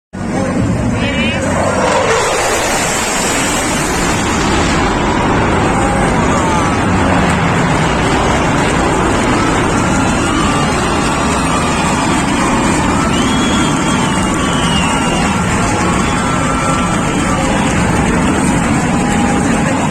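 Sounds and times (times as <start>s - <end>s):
jet engines roaring: 0.2s - 19.9s.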